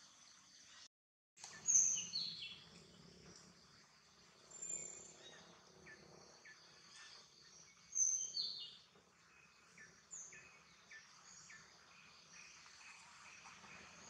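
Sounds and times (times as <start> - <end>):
outdoor ambience hiss: 0.0 - 14.0
birds chirping: 1.4 - 14.0.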